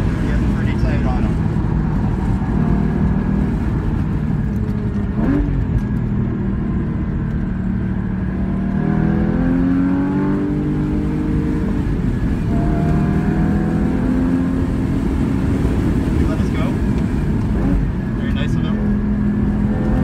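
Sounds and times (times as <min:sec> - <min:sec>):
car engine accelerating from inside: 0:00.0 - 0:20.0.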